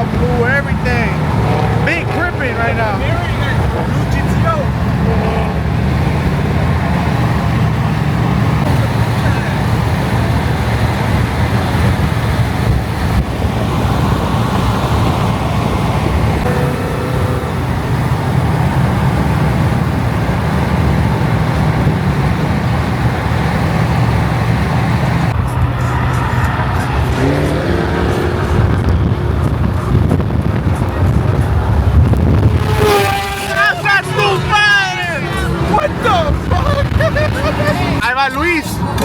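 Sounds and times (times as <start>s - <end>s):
car engine revving: 0.0s - 39.0s
car engine running: 0.0s - 39.0s
road noise: 0.0s - 39.0s.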